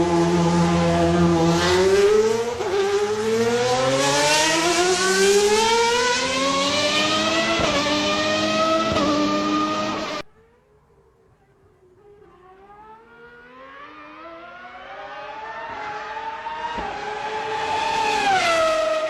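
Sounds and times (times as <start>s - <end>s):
racing car engine accelerating: 0.0s - 10.2s, 12.2s - 19.0s.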